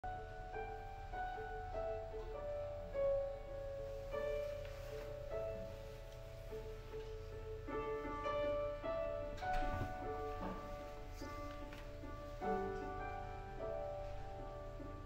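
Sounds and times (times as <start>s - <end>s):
slow gentle piano: 0.0s - 15.0s.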